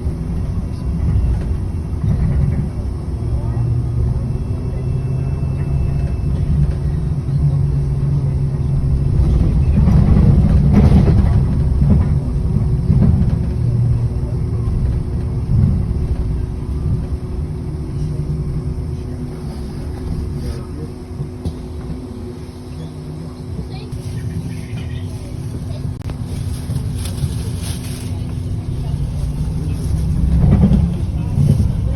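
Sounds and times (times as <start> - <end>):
bus engine and road rumble: 0.0 - 31.9.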